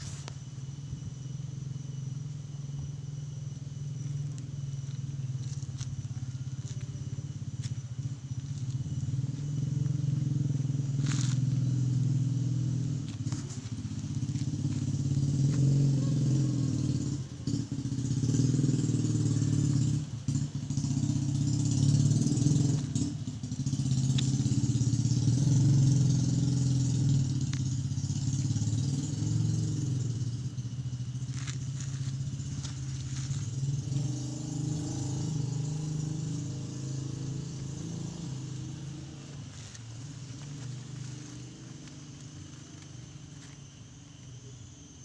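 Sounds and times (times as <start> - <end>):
motor engine humming: 0.0 - 44.6.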